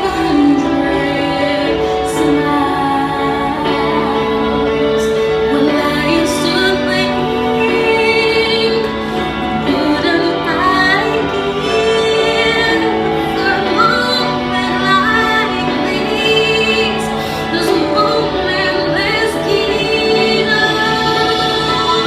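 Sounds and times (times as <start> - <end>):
sustained chords: 0.0 - 22.0.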